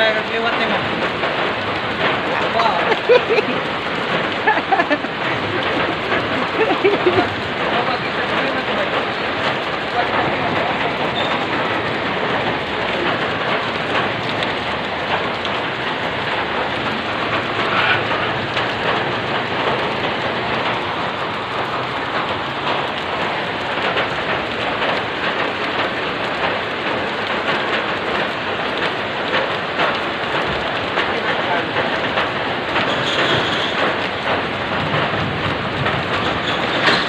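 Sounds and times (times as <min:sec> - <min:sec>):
heavy rain on standing water: 0:00.0 - 0:37.0.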